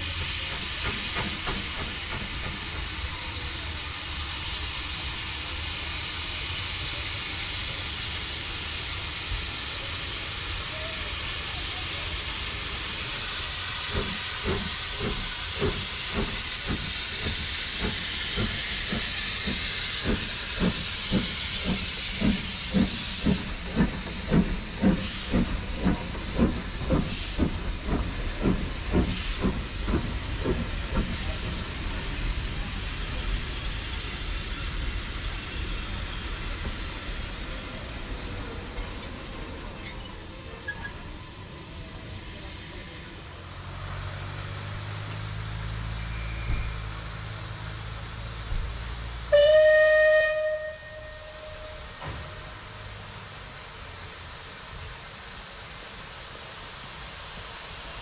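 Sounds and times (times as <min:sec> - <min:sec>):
steam hissing: 0:00.0 - 0:58.0
steam locomotive passing: 0:00.0 - 0:58.0.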